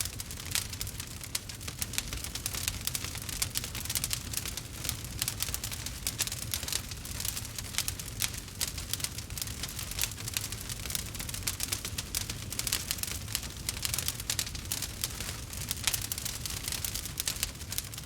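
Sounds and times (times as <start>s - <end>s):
burning wood crackling and popping: 0.0s - 18.0s
low steady fire rumble: 0.0s - 18.0s.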